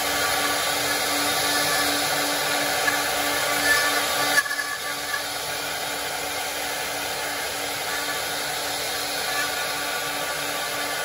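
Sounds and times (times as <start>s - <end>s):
router spindle whirring hiss: 0.0s - 11.0s.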